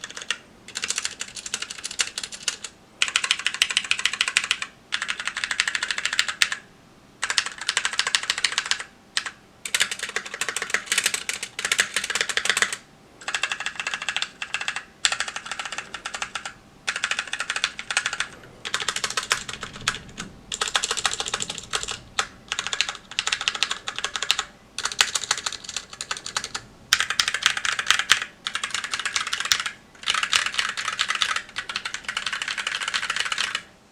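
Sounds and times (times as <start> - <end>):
mechanical keyboard typing: 0.0 - 6.6, 7.2 - 33.7.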